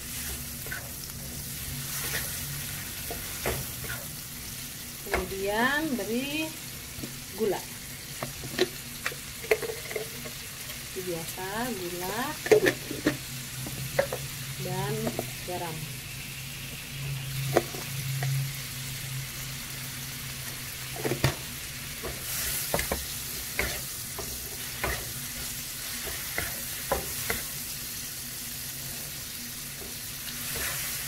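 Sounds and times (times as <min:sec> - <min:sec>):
seafood sizzling in butter: 0:00.0 - 0:31.0.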